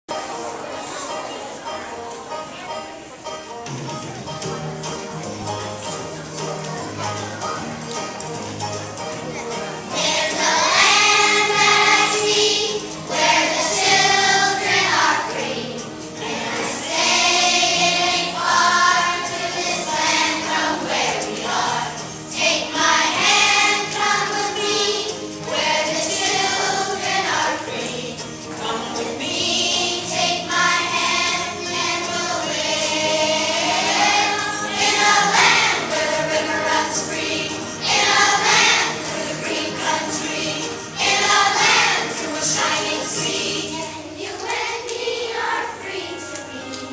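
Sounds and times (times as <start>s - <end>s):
children's choir singing: 0.1s - 46.9s.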